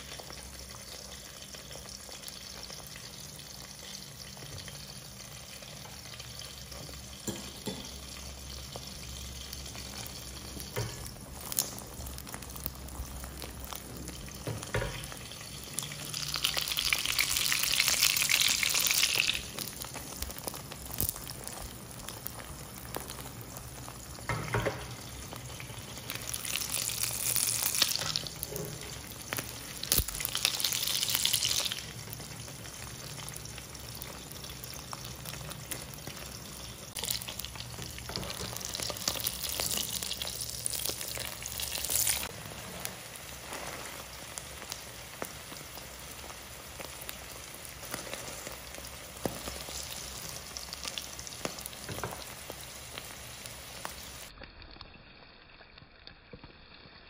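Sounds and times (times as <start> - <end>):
omelette sizzling in oil: 0.0 - 57.0.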